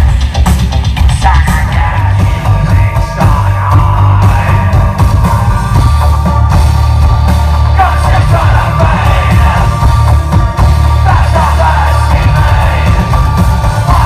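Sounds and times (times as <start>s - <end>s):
loud live industrial music: 0.0s - 14.0s.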